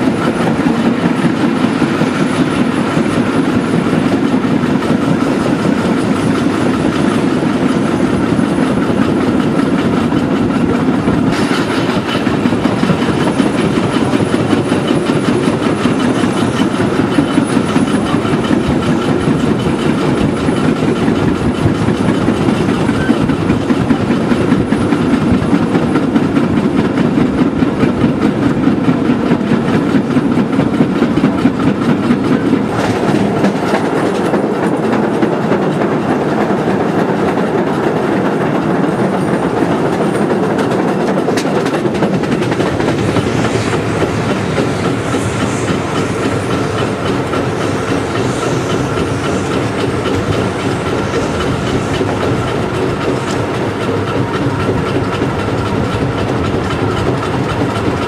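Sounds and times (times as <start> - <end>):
train rumble: 0.0 - 58.0
wheels clacking on rails: 0.0 - 58.0.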